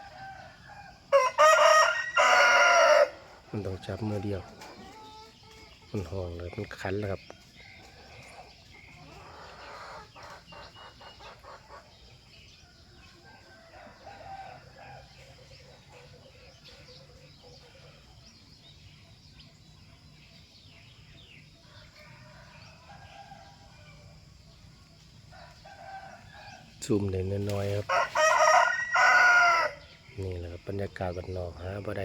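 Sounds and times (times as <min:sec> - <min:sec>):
small birds chirping: 0:00.0 - 0:32.0
chickens clucking: 0:02.2 - 0:22.4, 0:23.2 - 0:32.0.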